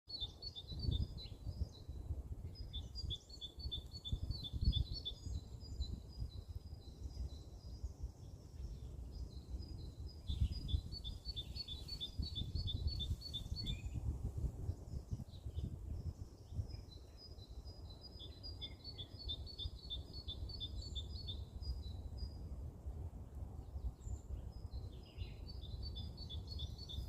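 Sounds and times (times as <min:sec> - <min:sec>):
small songbirds chirping: 0:00.1 - 0:27.0.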